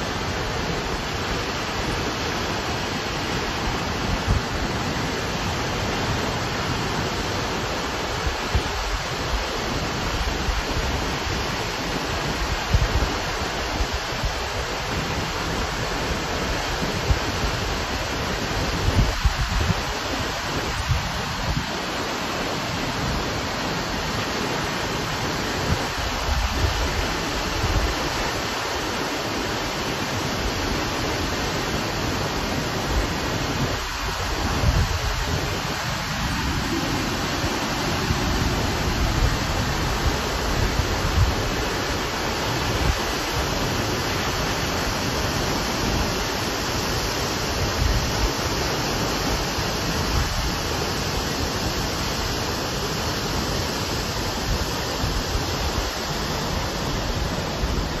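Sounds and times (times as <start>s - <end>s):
waterfall rushing onto rocks: 0.0s - 58.0s.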